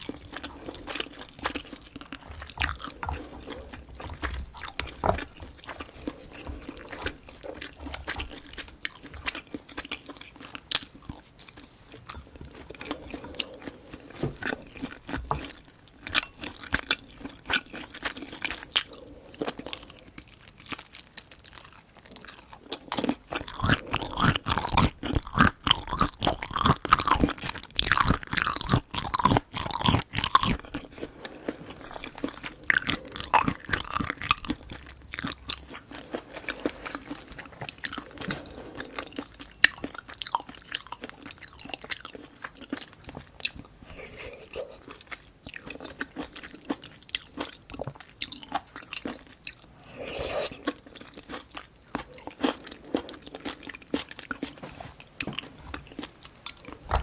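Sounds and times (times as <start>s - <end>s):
close chewing and biting food: 0.0s - 57.0s.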